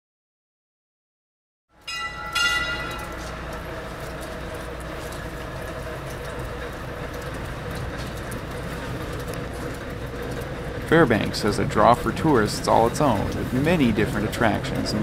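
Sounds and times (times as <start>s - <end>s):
small train rolling: 1.8s - 15.0s
wheels clicking on rails: 1.8s - 15.0s.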